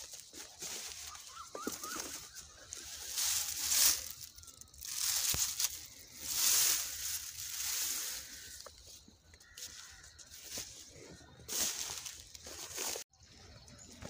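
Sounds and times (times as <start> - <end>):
rustling and crunching of dry grass: 0.0 - 14.0.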